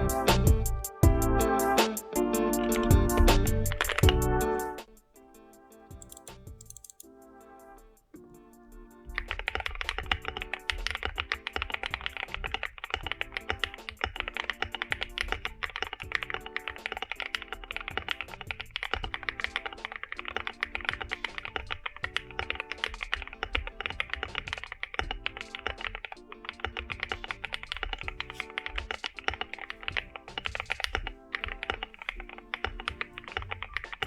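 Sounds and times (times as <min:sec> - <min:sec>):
background music: 0:00.0 - 0:34.0
mechanical keyboard typing: 0:02.7 - 0:04.4, 0:06.0 - 0:07.1, 0:09.1 - 0:34.0.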